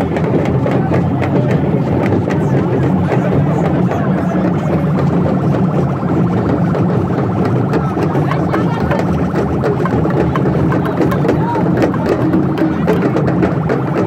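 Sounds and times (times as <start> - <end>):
crowd voices overlapping: 0.0 - 14.0
steady low hum: 0.0 - 14.0.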